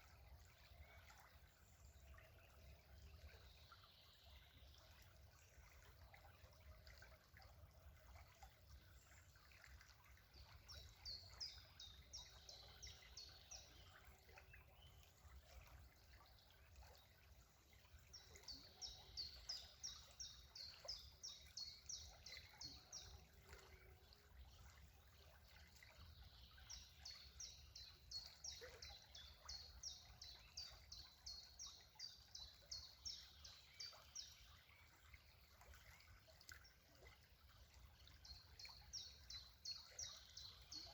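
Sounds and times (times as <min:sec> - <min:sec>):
faint trickling water: 0:00.0 - 0:40.9.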